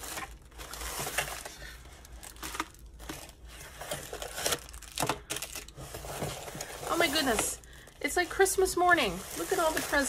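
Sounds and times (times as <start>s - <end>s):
tissue paper crinkling: 0.0s - 10.0s.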